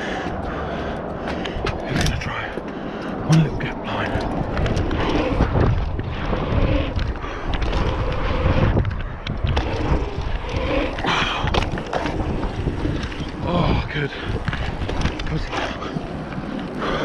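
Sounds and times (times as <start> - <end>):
wind on microphone: 0.0 - 17.0
tyre noise on dirt: 3.3 - 17.0.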